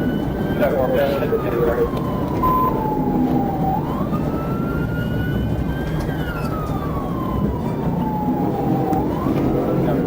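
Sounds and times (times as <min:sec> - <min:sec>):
car engine and road noise: 0:00.0 - 0:10.0
police siren wailing: 0:00.0 - 0:10.0.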